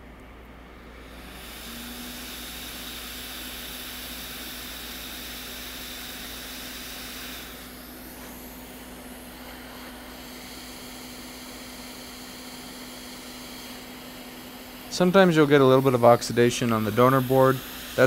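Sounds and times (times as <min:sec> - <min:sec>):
low fan hum: 0:00.0 - 0:18.0
hot air rushing hiss: 0:01.0 - 0:18.0.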